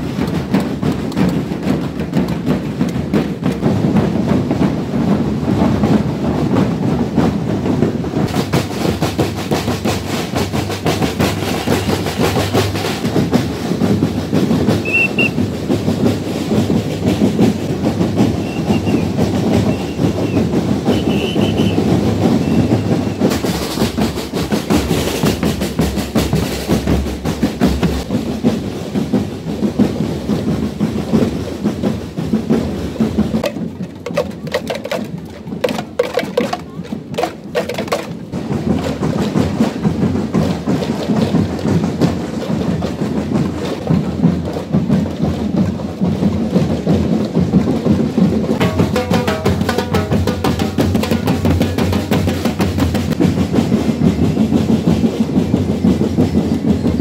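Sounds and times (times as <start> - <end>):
snare and bass drums beating: 0.0 - 57.0.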